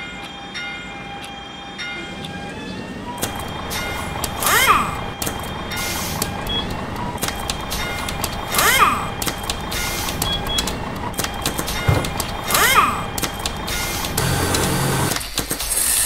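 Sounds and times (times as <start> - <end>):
rhythmic clicks and taps: 0.0 - 16.0.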